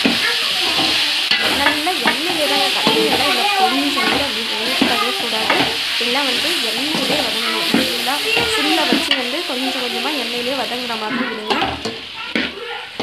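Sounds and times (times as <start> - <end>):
food sizzling in oil: 0.0 - 13.0
metal ladle scraping pan: 0.0 - 13.0.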